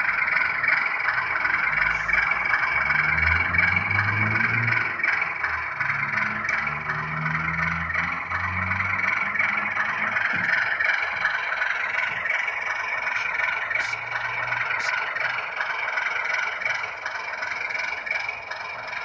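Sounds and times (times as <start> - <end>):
diesel locomotive humming: 0.0 - 19.0.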